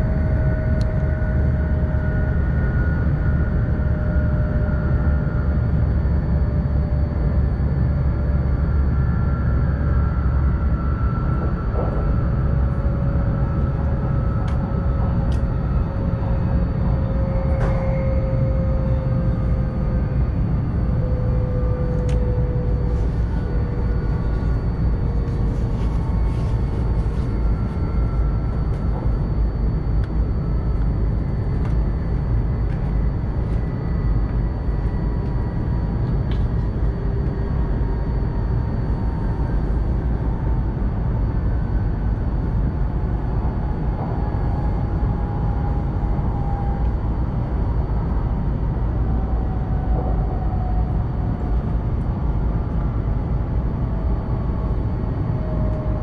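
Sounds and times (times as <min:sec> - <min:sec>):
faint whining tones: 0:00.0 - 0:56.0
train running rumble: 0:00.0 - 0:56.0.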